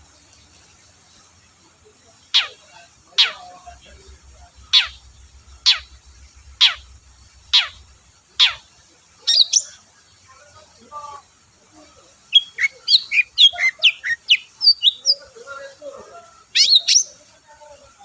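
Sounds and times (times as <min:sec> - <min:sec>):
bird singing sharp notes and chirps: 0:00.0 - 0:15.6, 0:16.2 - 0:18.0.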